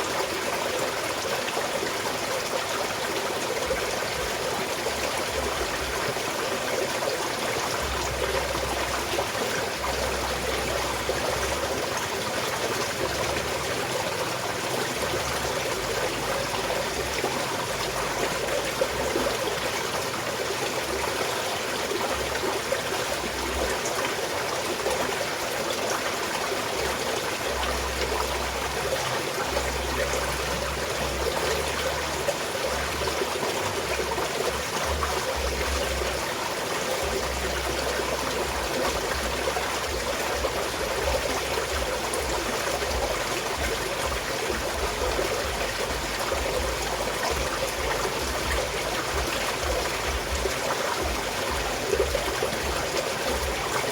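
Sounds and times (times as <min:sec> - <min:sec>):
stream trickling over stones: 0:00.0 - 0:53.9.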